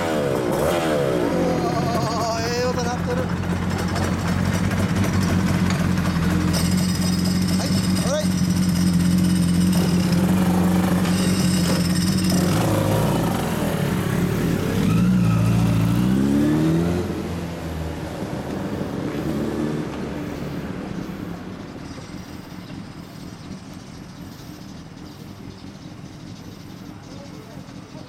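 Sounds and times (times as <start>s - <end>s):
motorcycle accelerating: 0.0s - 28.0s
motorcycle engines running: 0.0s - 28.0s.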